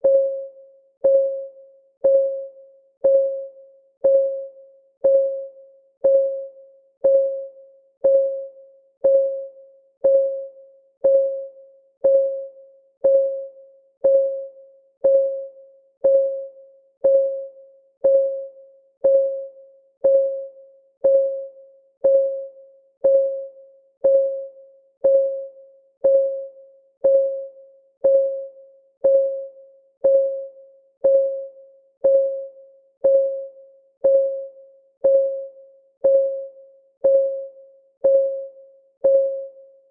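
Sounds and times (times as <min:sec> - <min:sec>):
timer ticking: 0:01.0 - 0:39.6.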